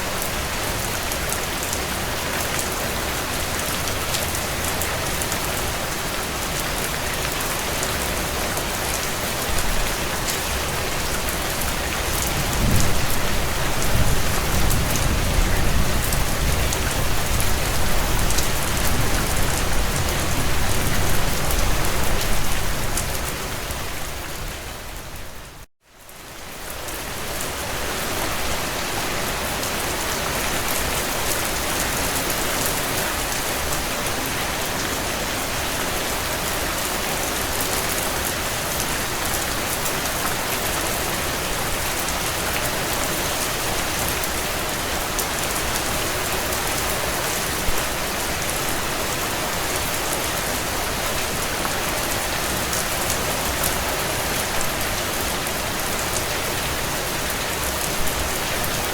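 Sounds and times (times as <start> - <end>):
heavy rain on a tin roof: 0.0 - 58.9.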